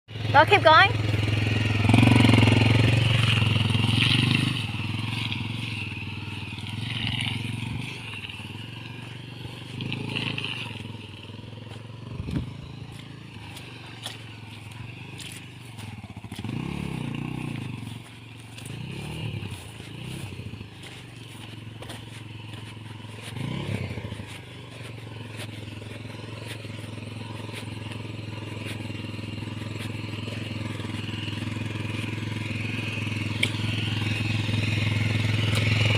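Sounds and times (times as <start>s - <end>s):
motorcycle engine revving: 0.1s - 35.9s
clicks and crunches from road: 1.0s - 35.9s.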